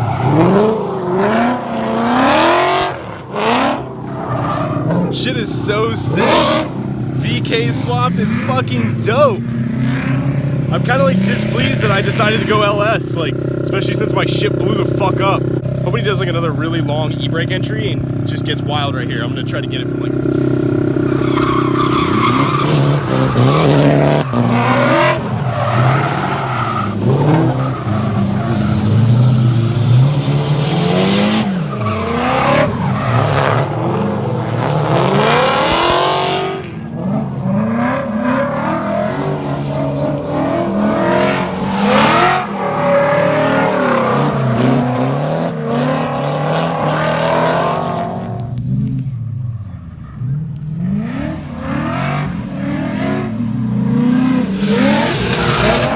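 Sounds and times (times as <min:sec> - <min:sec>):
car engines revving: 0:00.0 - 0:55.9
tyre and road noise: 0:00.0 - 0:55.9.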